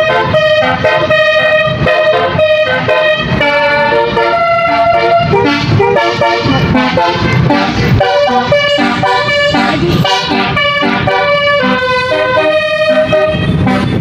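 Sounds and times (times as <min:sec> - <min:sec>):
bus horn playing a melody: 0:00.0 - 0:14.0.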